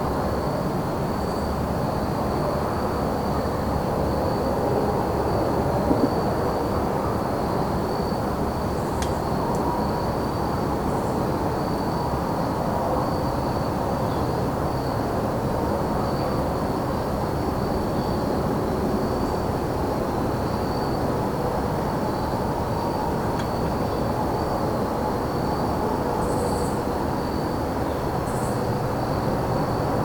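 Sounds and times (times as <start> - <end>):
crickets chirping: 0.1 - 30.0.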